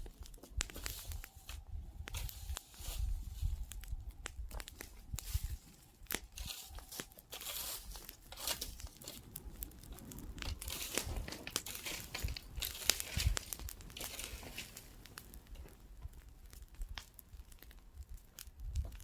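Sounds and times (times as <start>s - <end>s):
wood bonfire crackling: 0.0s - 19.0s.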